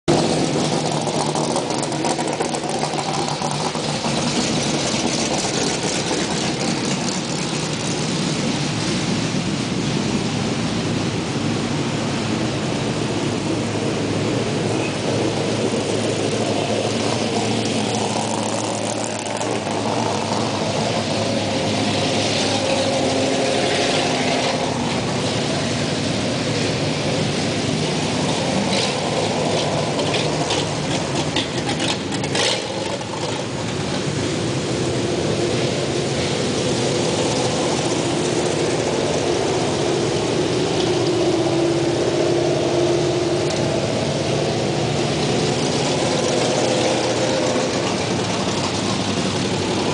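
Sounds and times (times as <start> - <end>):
race car engines passing: 0.0 - 49.9.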